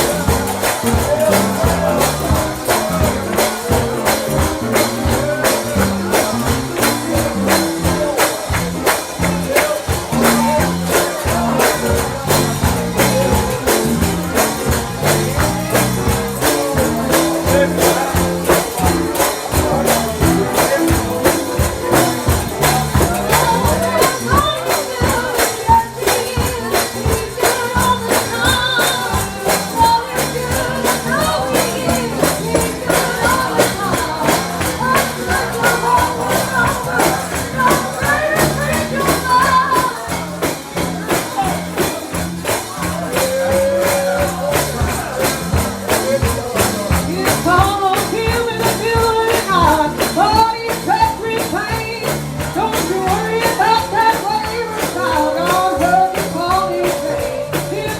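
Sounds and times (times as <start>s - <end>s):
tambourine: 0.0s - 57.9s
upbeat gospel song: 0.0s - 57.9s.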